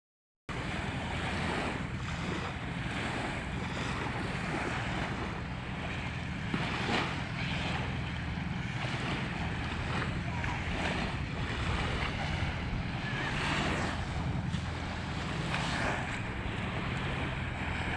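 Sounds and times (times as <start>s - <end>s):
small waves washing: 0.5s - 17.9s
wind rumbling on microphone: 0.5s - 17.9s.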